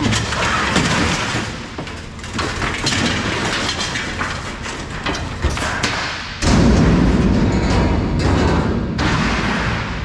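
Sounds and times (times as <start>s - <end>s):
scrap metal clattering and scraping: 0.0s - 9.8s.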